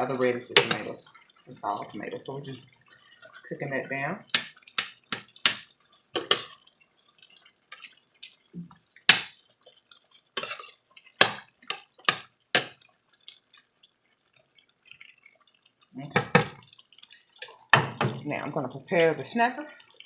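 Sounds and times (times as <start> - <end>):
vegetables popping in oil: 0.0 - 2.5, 3.5 - 19.4.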